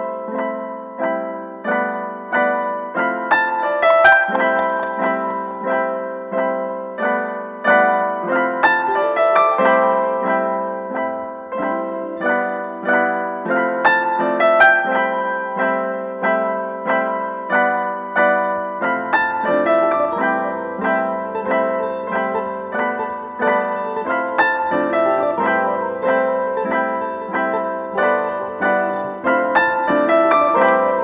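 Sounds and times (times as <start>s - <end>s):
instrumental music struck notes: 0.0s - 31.0s.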